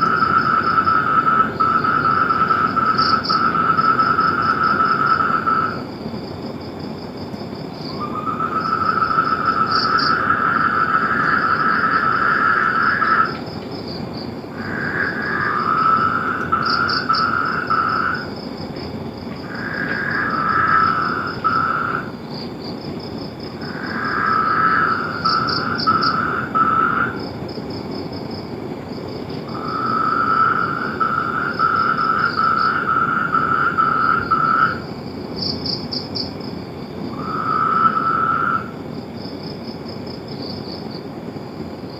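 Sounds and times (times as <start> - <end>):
frogs trilling: 0.0 - 41.1
background hiss: 0.0 - 41.9.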